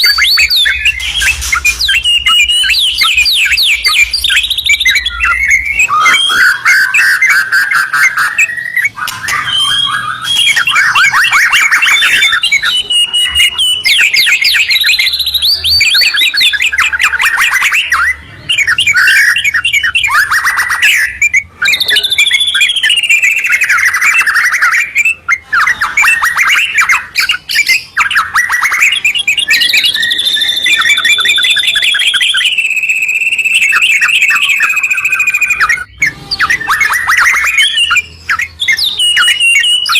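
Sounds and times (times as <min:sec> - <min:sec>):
birds singing trills and whistles: 0:00.0 - 0:39.9.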